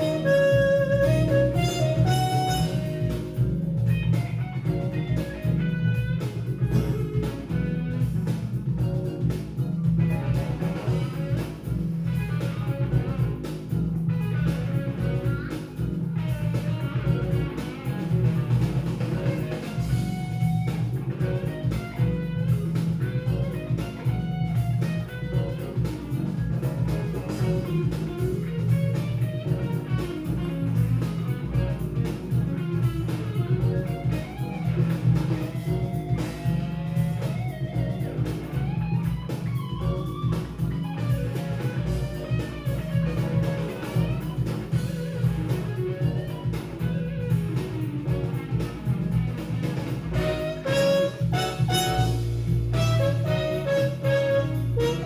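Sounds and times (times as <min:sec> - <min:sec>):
guitar bending gliding lines: 0:00.0 - 0:55.0
jazz fusion band playing: 0:00.0 - 0:55.0.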